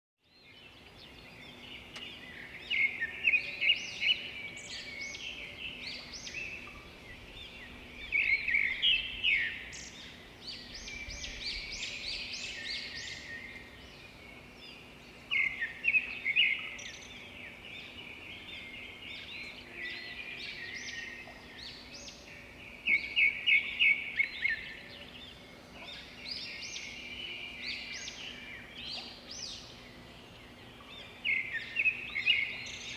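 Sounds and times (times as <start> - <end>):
birds chirping: 0.3 - 32.9.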